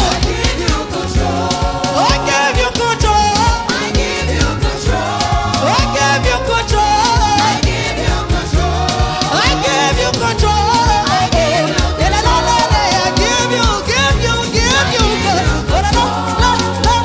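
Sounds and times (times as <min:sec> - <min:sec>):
band with bass and drums: 0:00.0 - 0:17.0
person singing: 0:00.0 - 0:17.0.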